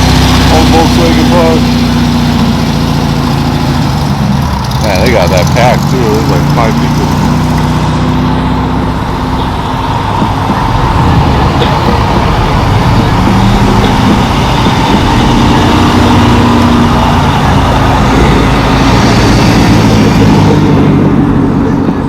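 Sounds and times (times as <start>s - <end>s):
car engines running: 0.0s - 22.0s.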